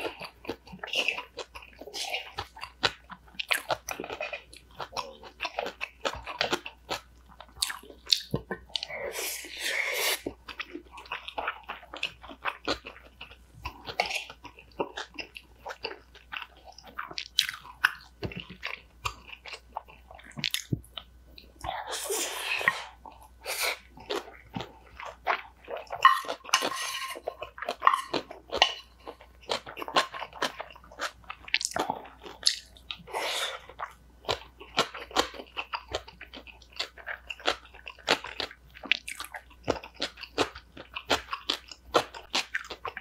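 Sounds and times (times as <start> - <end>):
chewing and crunching cucumber: 0.0 - 9.6, 10.2 - 43.0.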